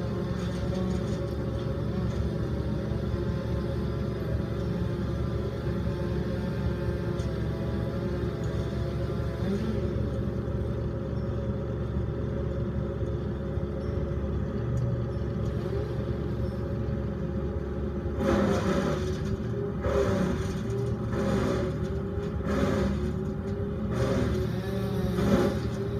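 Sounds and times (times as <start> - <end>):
wood chipper rushing: 0.0 - 11.9, 15.4 - 25.9
engines droning: 0.0 - 25.9.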